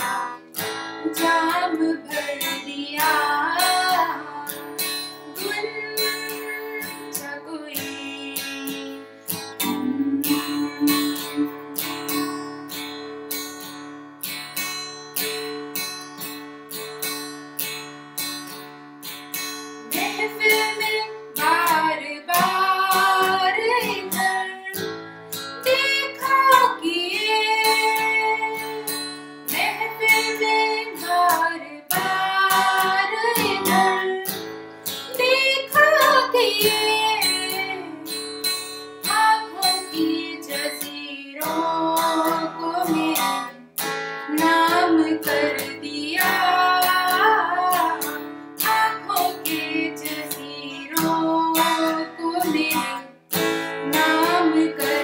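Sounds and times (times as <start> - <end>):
woman singing: 0.0 - 12.8, 19.9 - 38.4, 39.0 - 55.0
acoustic guitar strumming: 0.0 - 55.0.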